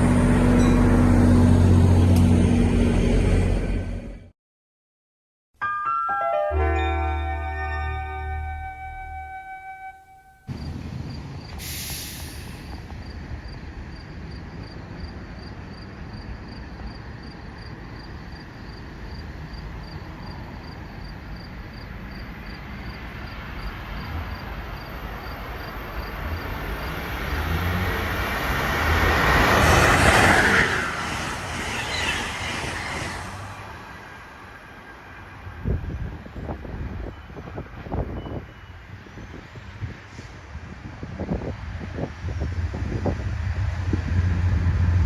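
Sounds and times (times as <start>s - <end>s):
train passing with rushing wheels: 0.0s - 4.3s, 10.5s - 45.0s.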